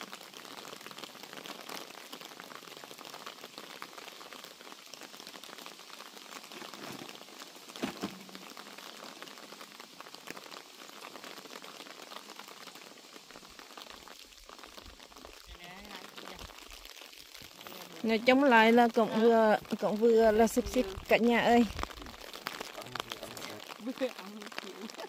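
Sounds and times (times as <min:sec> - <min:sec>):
light rain pattering: 0:00.0 - 0:25.0.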